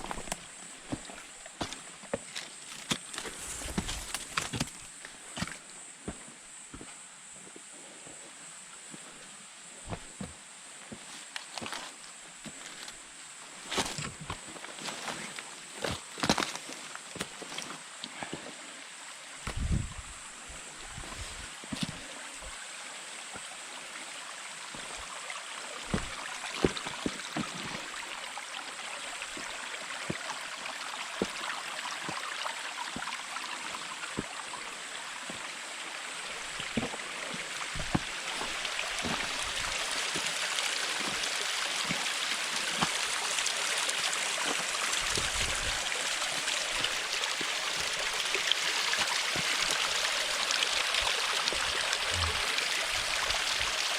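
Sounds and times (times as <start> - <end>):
rushing stream water: 0.0 - 6.8, 8.1 - 53.9.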